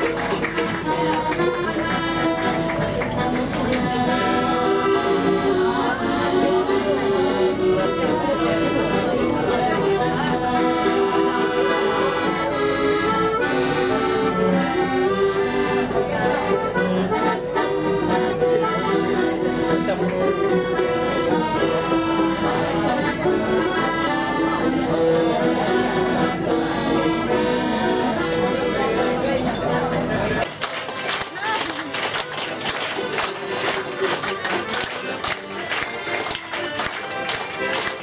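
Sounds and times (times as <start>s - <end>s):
piano accordion playing: 0.0s - 38.0s.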